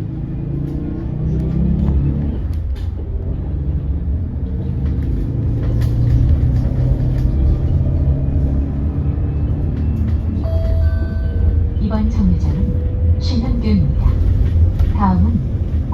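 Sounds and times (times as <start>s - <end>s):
bus cabin low rumble: 0.0s - 15.9s.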